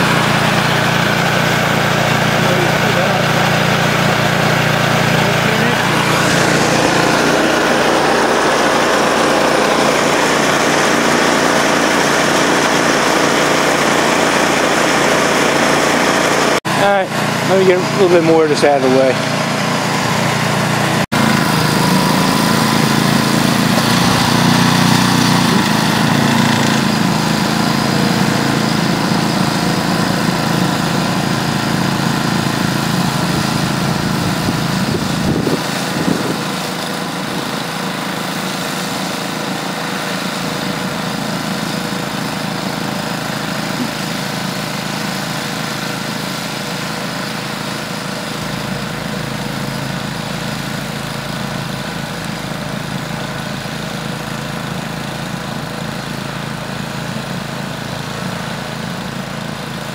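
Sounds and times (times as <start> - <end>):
snowblower engine running: 0.0 - 59.9.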